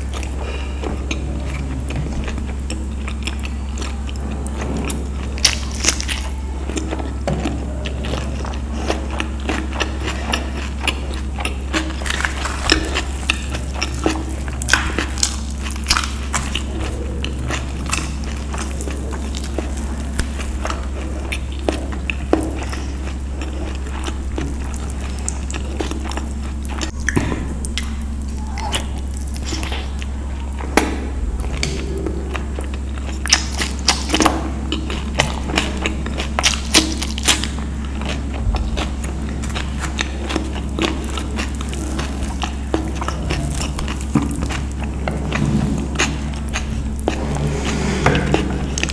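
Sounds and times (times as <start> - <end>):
low hum: 0.0 - 48.9
person chewing: 0.0 - 48.9.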